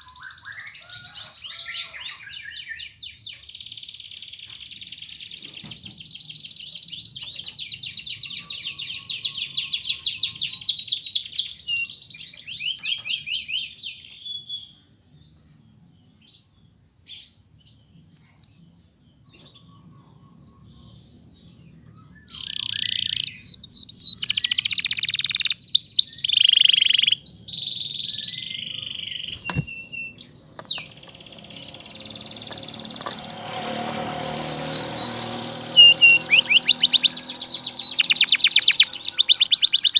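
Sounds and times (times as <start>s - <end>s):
canary singing in trills: 0.0s - 16.2s, 17.0s - 39.9s.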